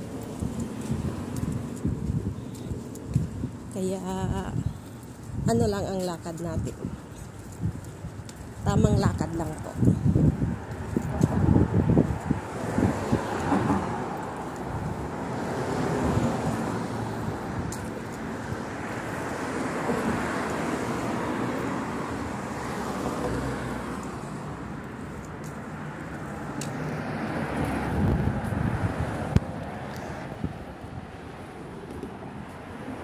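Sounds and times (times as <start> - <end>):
road traffic passing: 0.0 - 33.0
wind buffeting microphone: 0.0 - 33.0.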